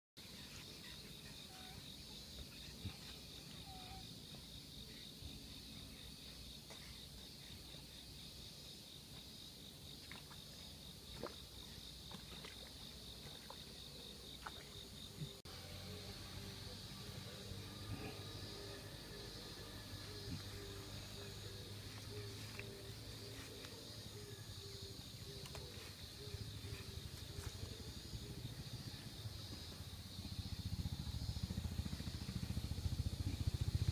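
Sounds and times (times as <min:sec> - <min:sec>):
cricket-like trill: 0:00.2 - 0:33.9.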